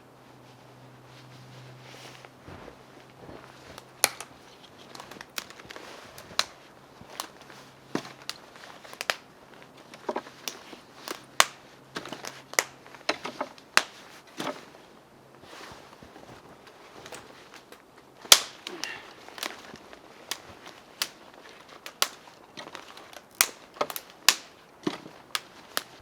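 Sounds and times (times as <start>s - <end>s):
dry twigs snapping: 3.0s - 26.0s.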